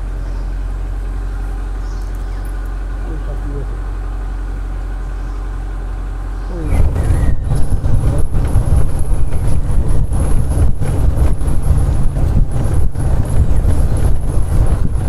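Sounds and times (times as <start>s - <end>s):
jeep engine rumble: 0.0s - 15.0s
vehicle rattles and jolts: 0.0s - 15.0s.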